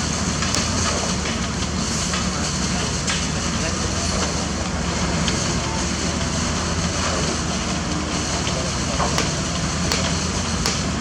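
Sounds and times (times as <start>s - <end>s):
diesel engine hum: 0.0s - 11.0s.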